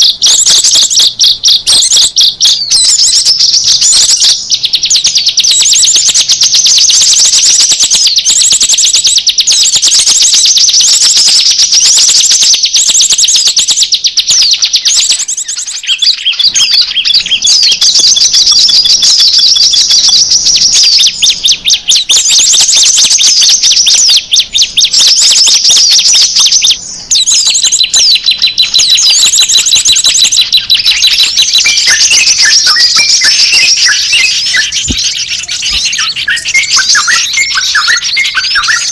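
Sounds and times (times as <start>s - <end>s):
high-pitched bird chirping: 0.0s - 38.9s.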